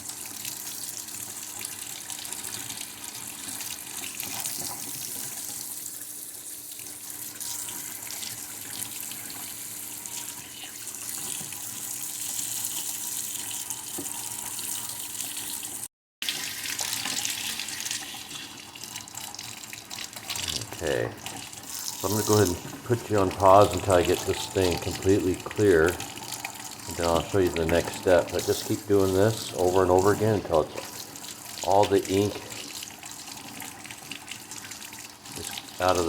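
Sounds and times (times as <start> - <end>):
tap water running into sink: 0.0 - 36.0.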